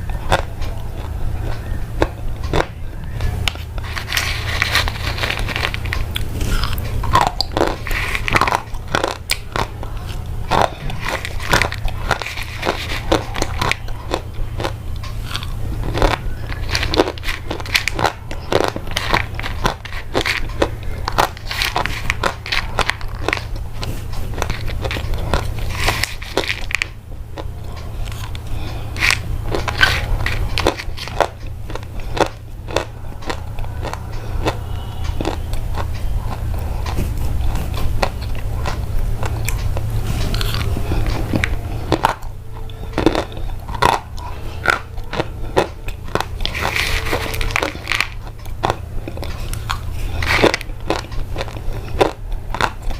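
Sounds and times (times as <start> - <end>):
crunchy chewing: 0.0 - 52.9
steady low hum: 0.0 - 52.9.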